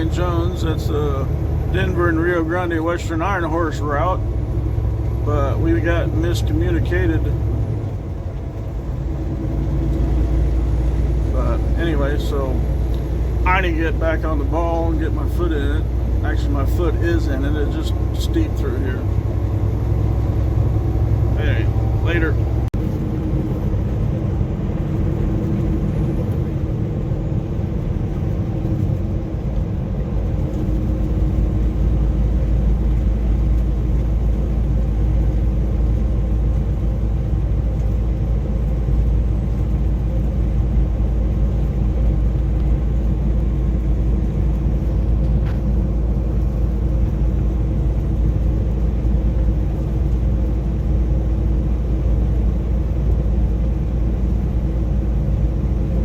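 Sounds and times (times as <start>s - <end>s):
deep low rumble: 0.0s - 56.0s
truck engine droning: 0.0s - 56.0s.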